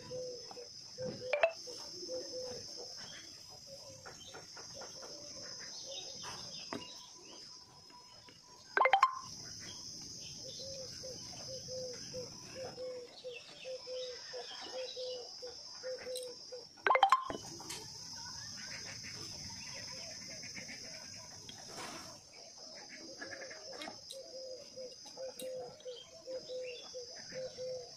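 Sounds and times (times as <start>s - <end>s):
birds chirping and calling: 0.0s - 7.5s, 8.8s - 22.0s, 22.8s - 27.9s.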